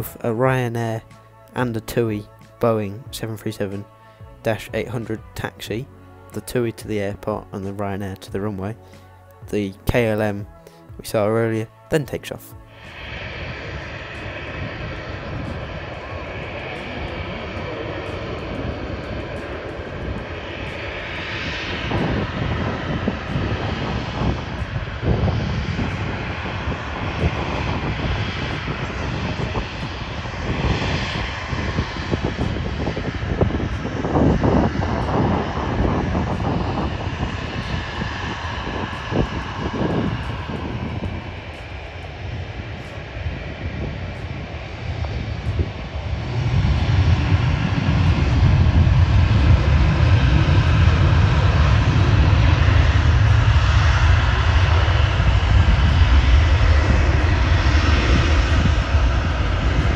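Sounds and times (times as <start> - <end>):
jet engines roaring: 8.7 - 59.9.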